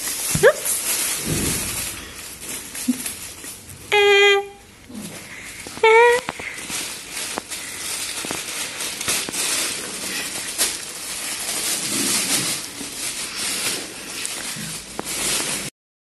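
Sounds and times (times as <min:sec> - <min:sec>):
fabric tunnel rustling and crinkling: 0:00.0 - 0:04.3, 0:04.9 - 0:15.7.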